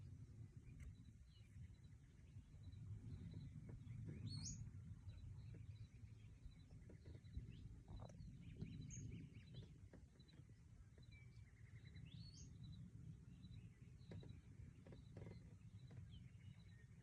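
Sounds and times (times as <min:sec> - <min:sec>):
birds chirping and trilling: 0:00.0 - 0:17.0
low background rumble: 0:00.0 - 0:17.0.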